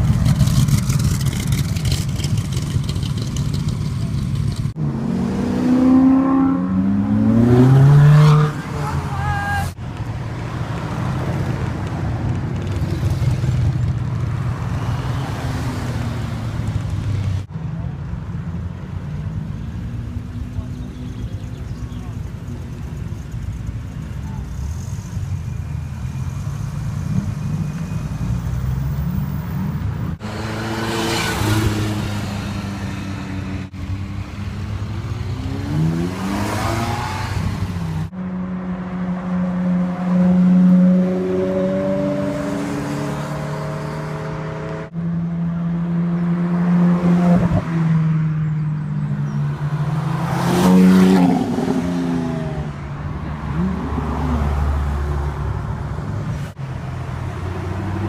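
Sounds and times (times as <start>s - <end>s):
supercars accelerating and passing: 0.0s - 58.0s.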